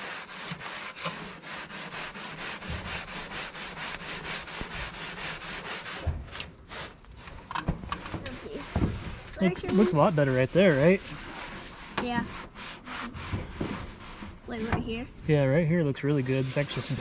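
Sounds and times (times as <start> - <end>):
steel wool scrubbing metal: 0.0 - 7.0, 7.9 - 17.0.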